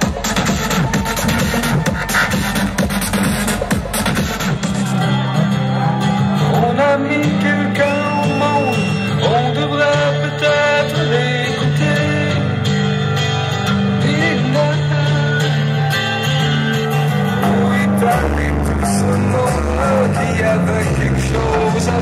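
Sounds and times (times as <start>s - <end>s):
loud live guitar music: 0.0s - 22.0s.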